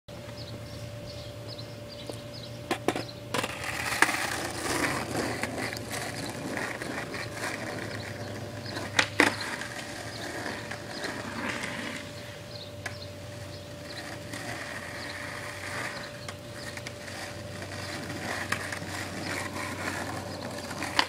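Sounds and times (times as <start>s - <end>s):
skateboard wheels rolling on asphalt: 0.2s - 21.0s
skateboard clacking on ground: 2.6s - 12.2s, 12.8s - 21.0s.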